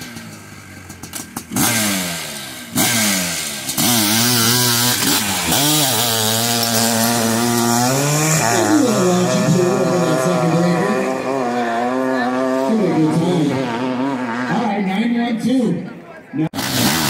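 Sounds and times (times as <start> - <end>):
motorcycle engine revving hard: 0.0 - 14.8, 16.6 - 17.0.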